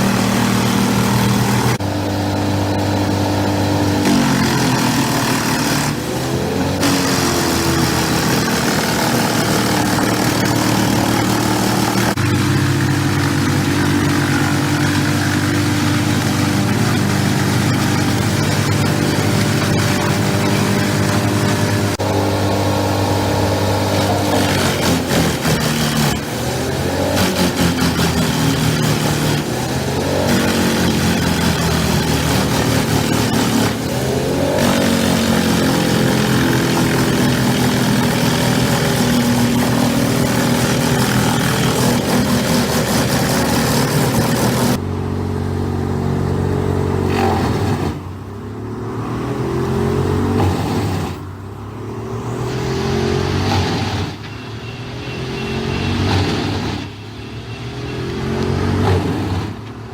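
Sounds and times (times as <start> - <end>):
wood chipper shredding roar: 0.0 - 54.3, 57.9 - 59.9
diesel engine running: 0.0 - 54.4.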